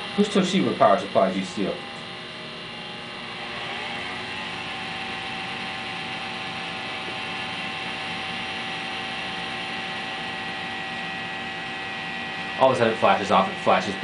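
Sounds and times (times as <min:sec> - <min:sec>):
machine whine over hum: 0:00.0 - 0:14.0.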